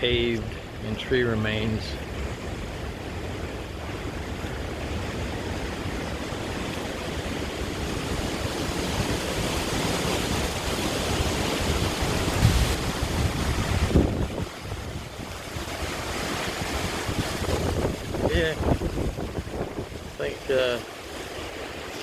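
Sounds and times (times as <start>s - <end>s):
hurricane wind blowing: 0.0s - 22.0s
wind buffeting microphone: 0.0s - 22.0s.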